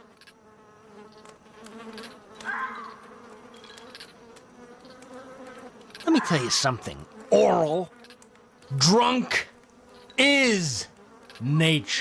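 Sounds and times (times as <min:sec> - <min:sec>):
fly buzzing: 0:00.0 - 0:12.0.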